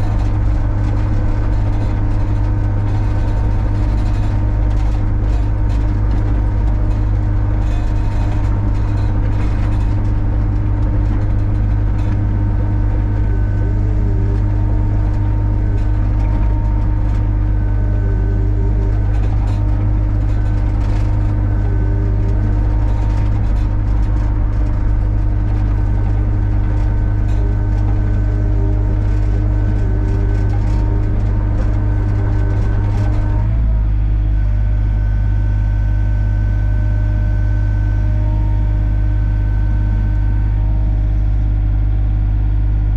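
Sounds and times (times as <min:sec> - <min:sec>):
diesel engine drone: 0:00.0 - 0:42.9
steady whining tones: 0:00.0 - 0:42.9.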